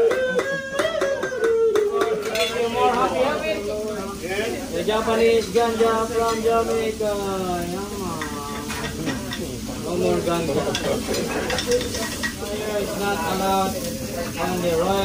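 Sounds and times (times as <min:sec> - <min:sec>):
rice sizzling on griddle: 0:00.0 - 0:15.0.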